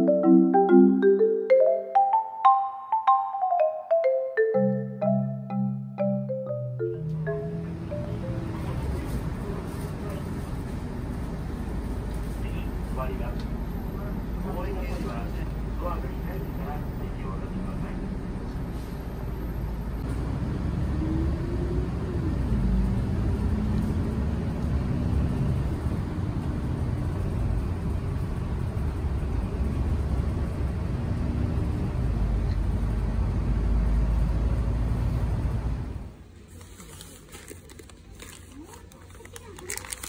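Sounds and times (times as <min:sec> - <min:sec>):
bus engine and road rumble: 0:07.1 - 0:40.0.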